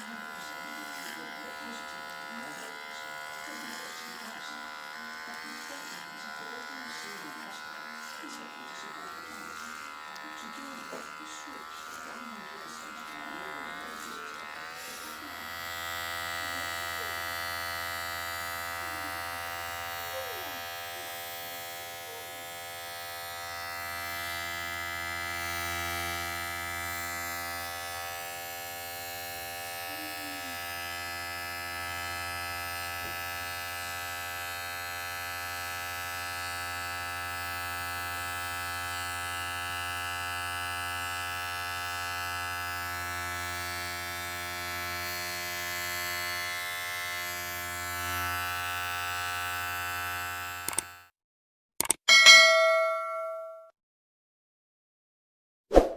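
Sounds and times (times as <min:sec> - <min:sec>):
electric hair clipper buzzing: 0:00.0 - 0:51.1.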